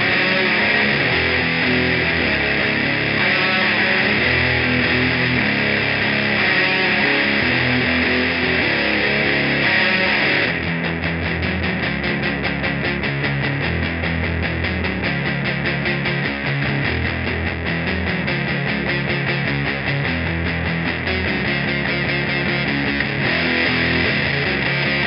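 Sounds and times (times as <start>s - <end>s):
distorted electric guitar riff: 0.0s - 25.0s.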